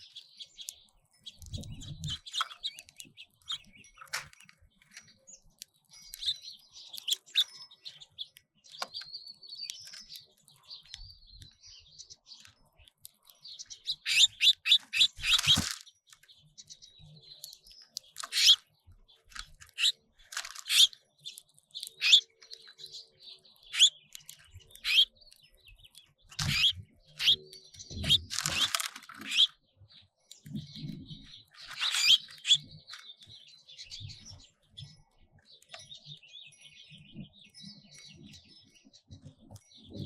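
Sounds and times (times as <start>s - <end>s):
songbirds chirping: 0.0s - 40.0s.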